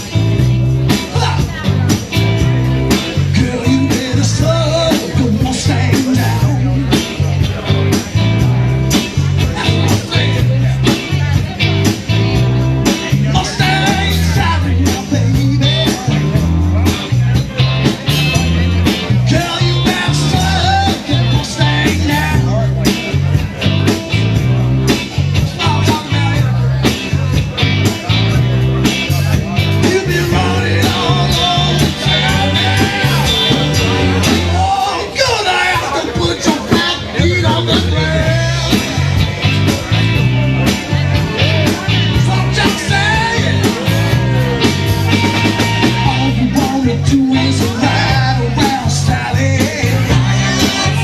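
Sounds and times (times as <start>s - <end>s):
pulsing bass line: 0.0s - 34.8s, 36.1s - 51.0s
rock and roll band music: 0.0s - 51.0s.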